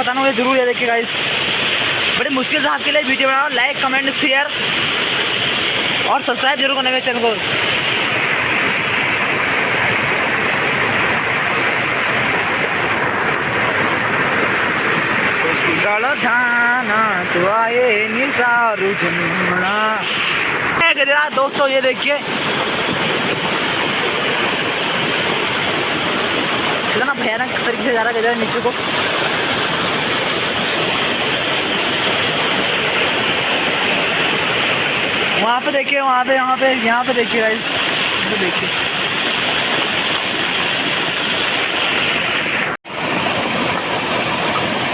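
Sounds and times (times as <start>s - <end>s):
floodwater rushing in stream: 0.0s - 44.9s.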